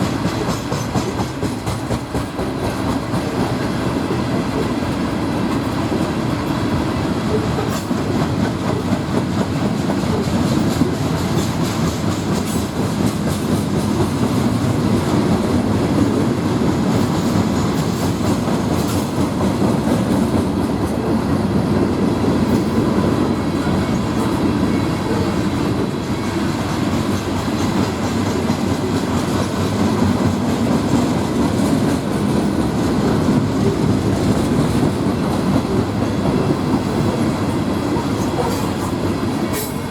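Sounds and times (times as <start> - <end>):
freight train wheels rattling on rails: 0.0 - 39.9.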